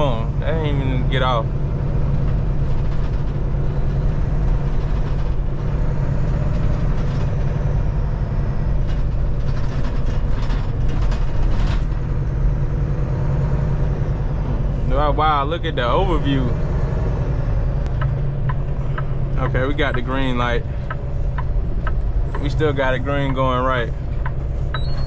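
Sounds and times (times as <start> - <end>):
road noise: 0.0 - 25.0
truck diesel engine rumble: 0.0 - 25.0.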